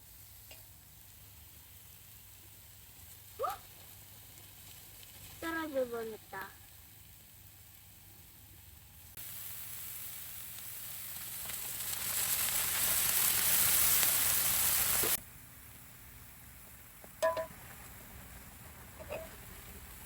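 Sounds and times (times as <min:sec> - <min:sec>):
beef sizzling in a hot pan: 0:00.0 - 0:20.0.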